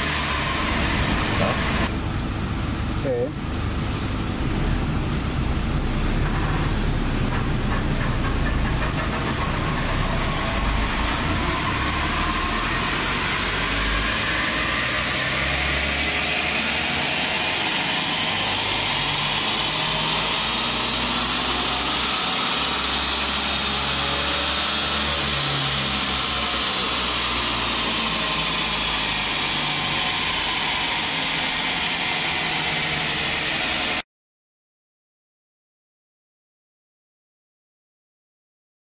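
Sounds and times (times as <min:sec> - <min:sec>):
diesel engine revving under load: 0:00.0 - 0:34.0
rising whine: 0:00.0 - 0:34.0.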